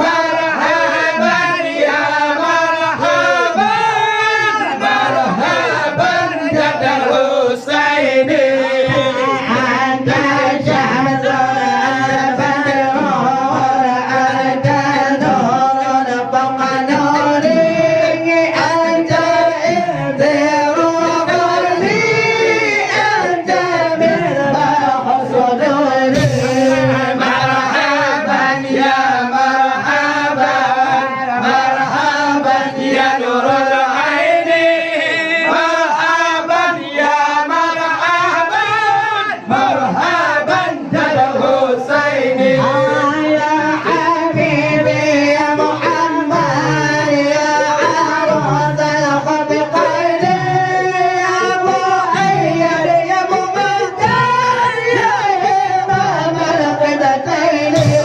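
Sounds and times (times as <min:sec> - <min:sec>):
men chanting unaccompanied: 0:00.0 - 0:58.0.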